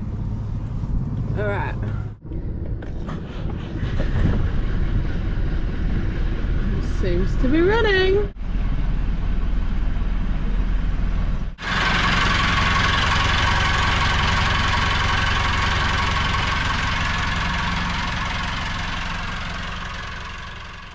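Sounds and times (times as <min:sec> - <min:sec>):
boat engine idling: 0:01.4 - 0:20.9.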